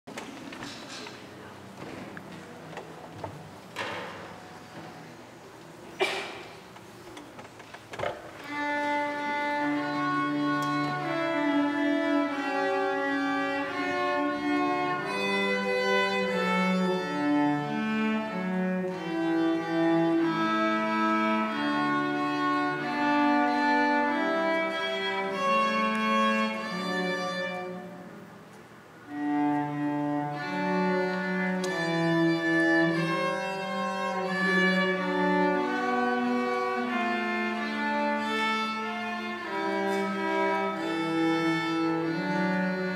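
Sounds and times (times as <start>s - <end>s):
cello: 0.7s - 5.8s, 8.3s - 42.9s
violin: 8.0s - 42.9s.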